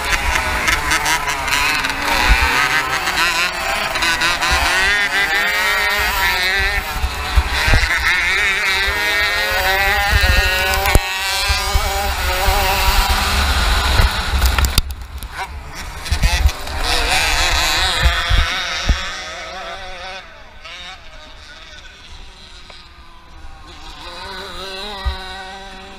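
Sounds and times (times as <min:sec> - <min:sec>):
kart engine revving: 0:00.0 - 0:25.9.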